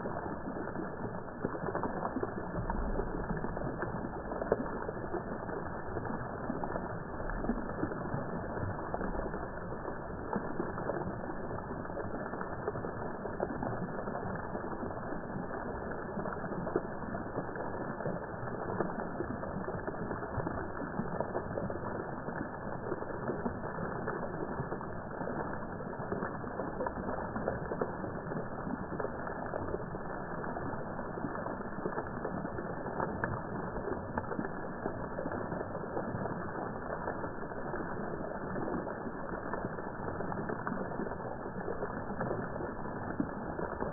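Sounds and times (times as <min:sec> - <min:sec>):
deep muffled rush of water: 0:00.0 - 0:43.9.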